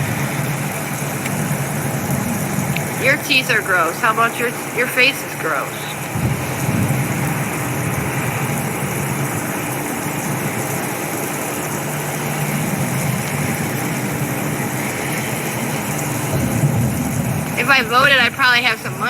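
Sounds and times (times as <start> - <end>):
low engine hum: 0.0 - 19.0
steady hiss: 0.0 - 19.0.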